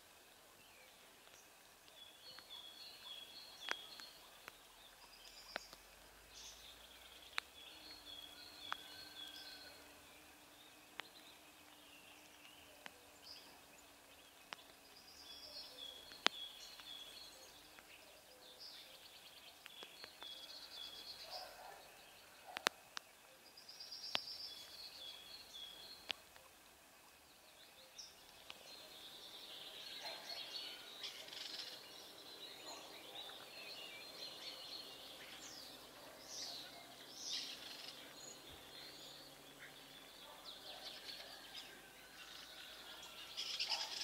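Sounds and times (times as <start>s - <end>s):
faint low hum: 0.0s - 44.0s
songbirds chirping: 0.0s - 44.0s.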